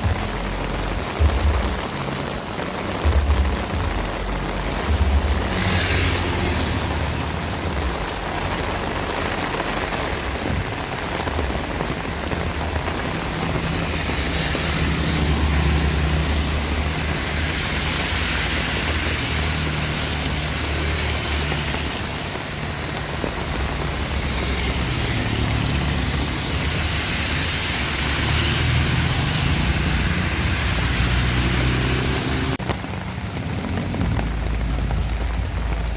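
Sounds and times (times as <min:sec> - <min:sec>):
heavy rain: 0:00.0 - 0:35.9.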